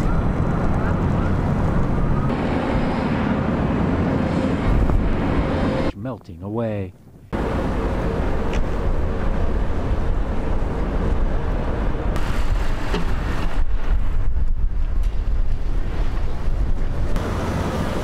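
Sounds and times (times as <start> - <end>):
wind buffeting microphone: 0.0 - 5.9, 6.9 - 18.0.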